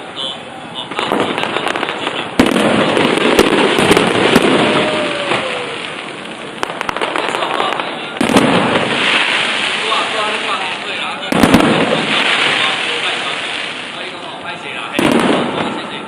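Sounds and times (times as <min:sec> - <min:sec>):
fireworks bangs and crackles: 0:00.8 - 0:16.0.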